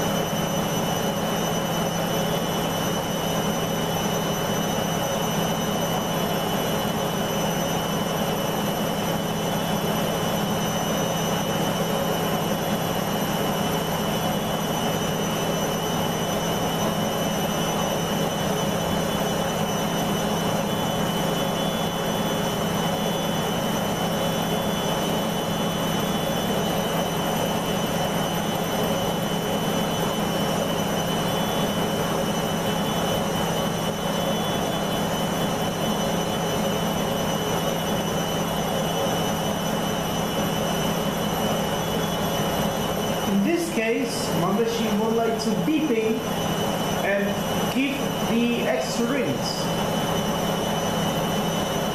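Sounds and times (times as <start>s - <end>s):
washing machine spinning: 0.0s - 51.9s.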